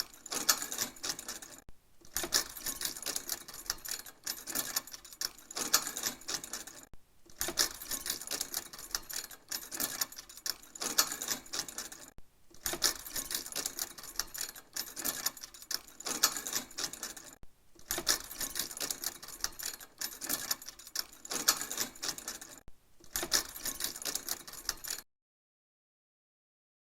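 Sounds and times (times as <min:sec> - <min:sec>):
metal chain rattling: 0:00.0 - 0:25.0.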